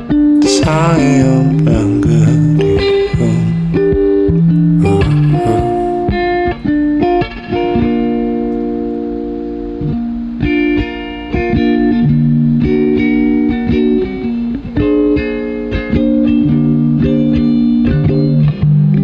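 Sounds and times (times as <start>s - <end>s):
guitar picking ringing chords: 0.0s - 19.0s.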